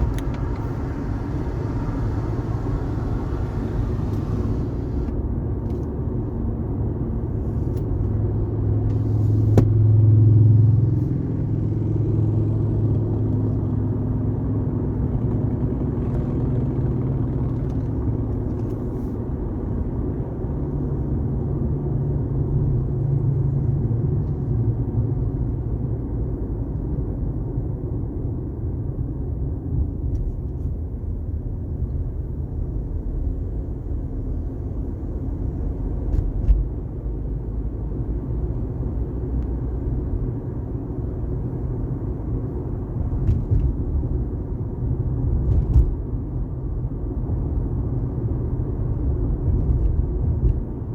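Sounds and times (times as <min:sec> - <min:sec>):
car driving at highway speed: 0:00.0 - 0:50.9.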